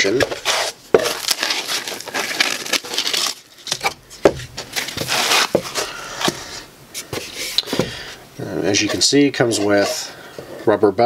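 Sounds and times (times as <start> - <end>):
foam scraping and rustling: 0.0 - 10.8.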